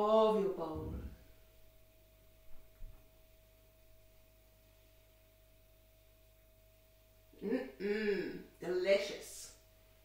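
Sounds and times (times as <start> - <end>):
faint high hum: 0.0 - 10.0.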